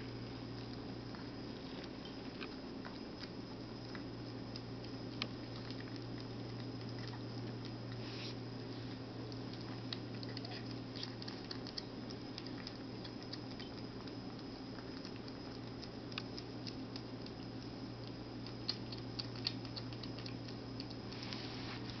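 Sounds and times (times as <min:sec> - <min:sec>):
steady low hum: 0:00.0 - 0:22.0
kittens eating clicks: 0:00.2 - 0:21.3.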